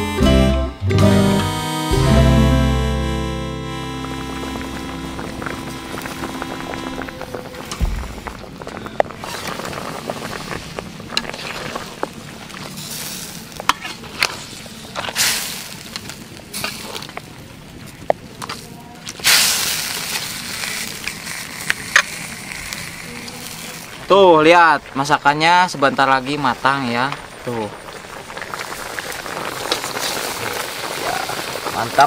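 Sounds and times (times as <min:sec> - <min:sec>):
fish sizzling in a wok: 0:04.2 - 0:17.2, 0:18.3 - 0:32.0.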